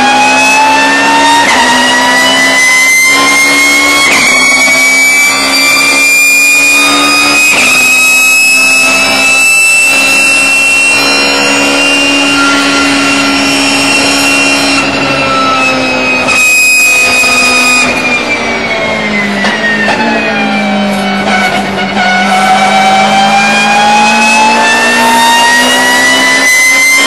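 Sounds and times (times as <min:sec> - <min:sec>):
race car engine at high revs: 0:00.0 - 0:27.0.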